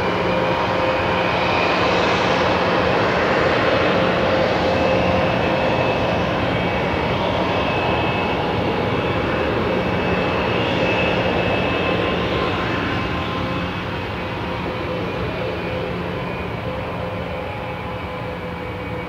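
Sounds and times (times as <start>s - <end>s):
jet engines roaring and whining: 0.0s - 19.0s.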